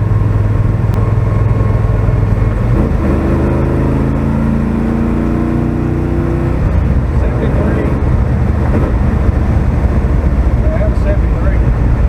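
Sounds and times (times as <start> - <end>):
truck engine running: 0.0 - 4.6, 6.4 - 12.0.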